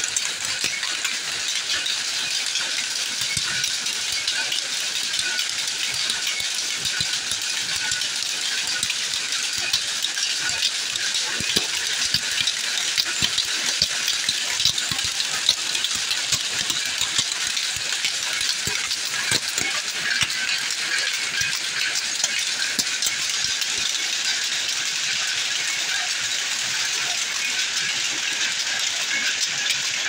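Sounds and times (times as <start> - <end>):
power looms clattering: 0.0 - 25.2.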